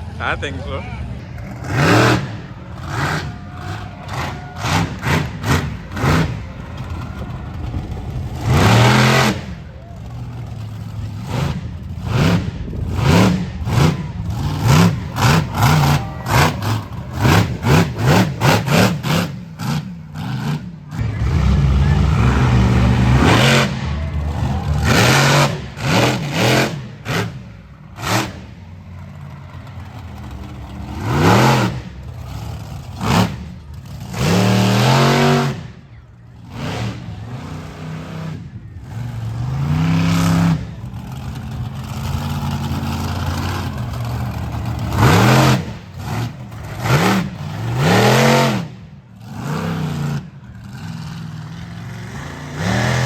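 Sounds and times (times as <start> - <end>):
truck engine revving hard: 0.0 - 53.0.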